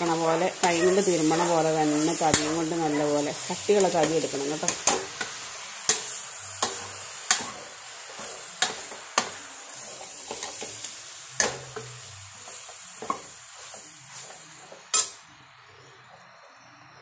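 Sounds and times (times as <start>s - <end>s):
meat sizzling: 0.0s - 16.9s.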